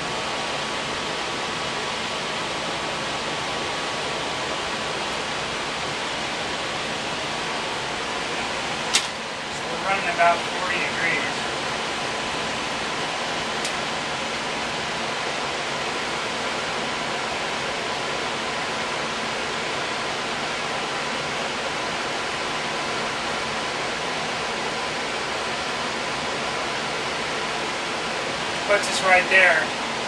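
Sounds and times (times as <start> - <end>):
faint hum: 0.0 - 30.0
furnace blower air rush: 0.0 - 30.0.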